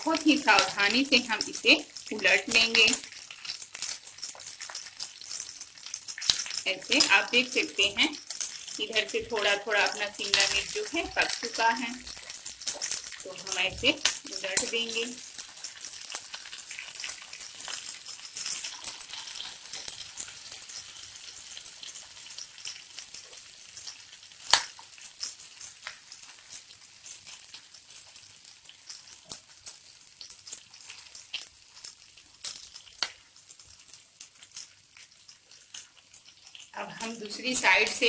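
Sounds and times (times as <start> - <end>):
food sizzling in a frying pan: 0.0 - 38.0.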